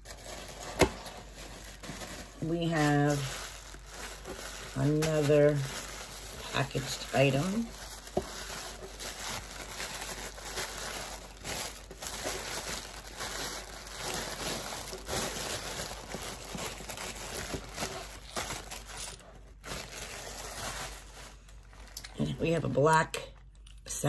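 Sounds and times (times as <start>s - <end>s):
paper crinkling and rustling: 0.0s - 22.4s.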